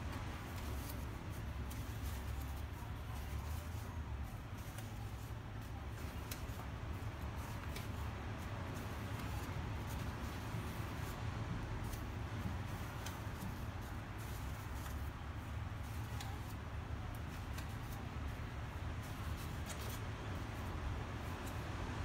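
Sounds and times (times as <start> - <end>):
book pages turning: 0.0 - 22.0.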